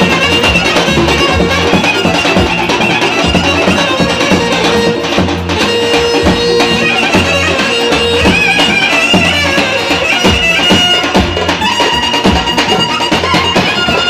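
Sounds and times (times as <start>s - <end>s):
steady drum beat: 0.0s - 14.0s
wind instrument melody: 0.0s - 14.0s.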